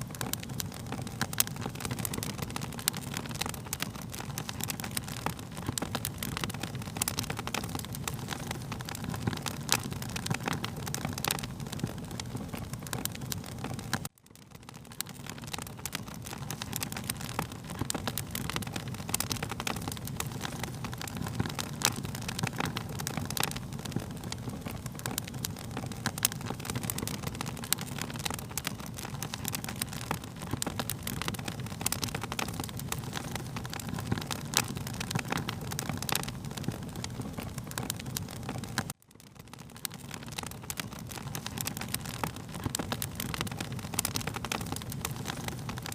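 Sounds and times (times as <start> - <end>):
low rumble of burning: 0.0 - 45.9
wood fire crackling and popping: 0.0 - 45.9.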